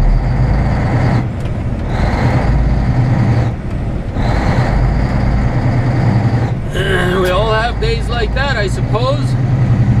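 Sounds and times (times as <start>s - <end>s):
diesel truck engine pulling away: 0.0s - 10.0s.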